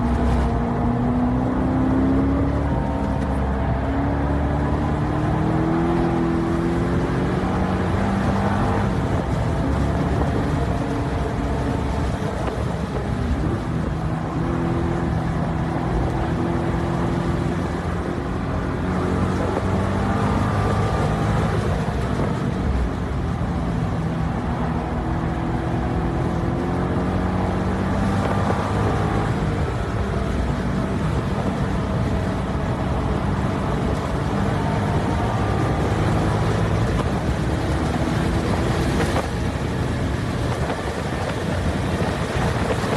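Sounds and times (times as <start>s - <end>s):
car engine revving at full load: 0.0s - 42.9s.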